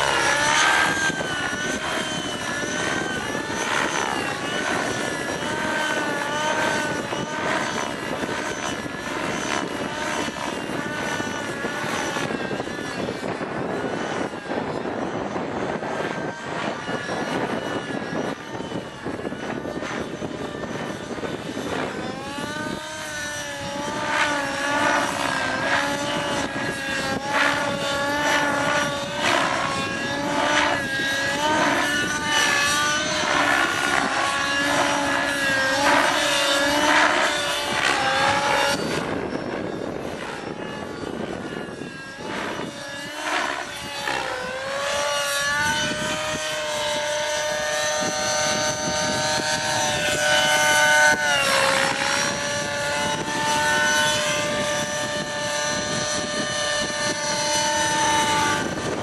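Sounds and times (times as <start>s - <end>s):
model helicopter engine and rotor: 0.0s - 59.0s.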